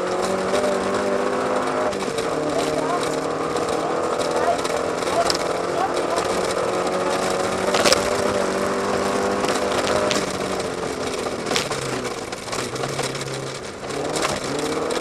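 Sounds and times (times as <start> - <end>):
rally car engine running hard: 0.0 - 15.0
sharp clicks: 1.9 - 15.0.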